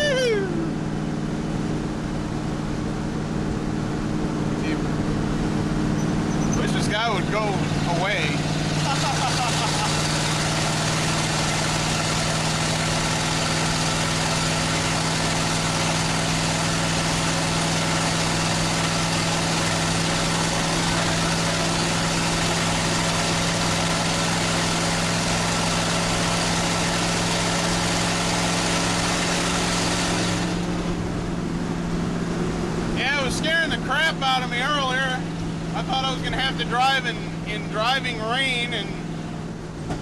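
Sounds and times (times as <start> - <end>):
road and wind rush: 0.0 - 40.0
truck exhaust drone: 0.0 - 40.0.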